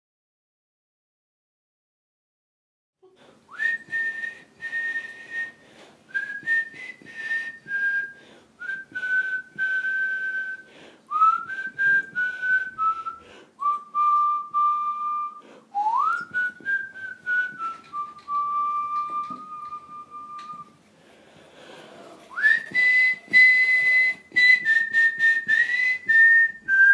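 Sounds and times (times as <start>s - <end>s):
person whistling a tune: 3.5s - 20.8s, 22.3s - 26.9s.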